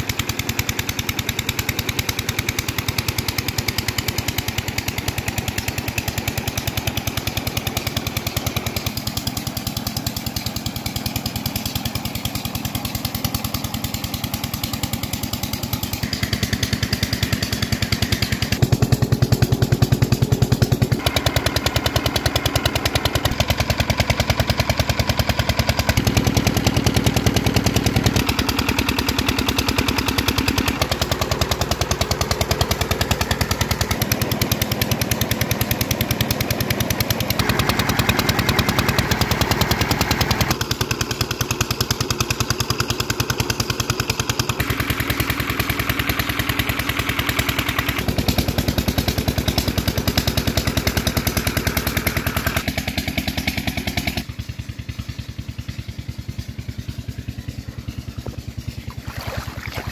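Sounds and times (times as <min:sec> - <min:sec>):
engine knocking rapidly: 0:00.0 - 0:59.9.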